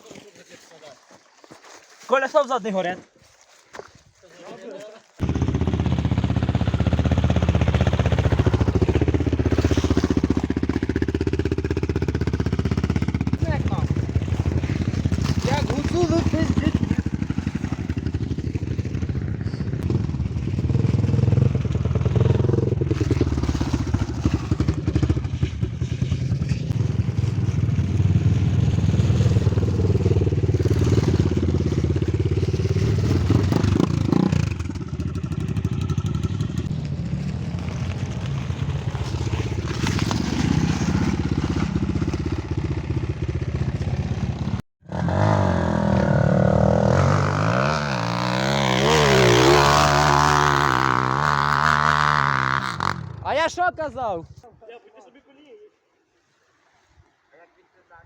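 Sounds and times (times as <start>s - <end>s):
motorcycle engine revving: 5.2s - 53.4s.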